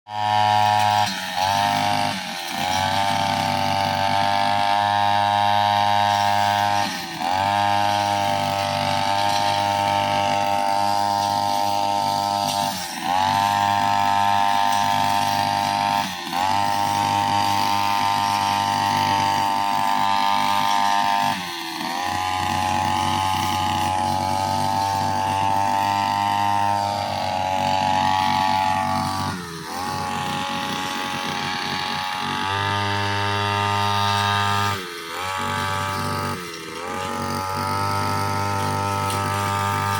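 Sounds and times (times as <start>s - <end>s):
brushcutter engine running: 0.1s - 39.9s.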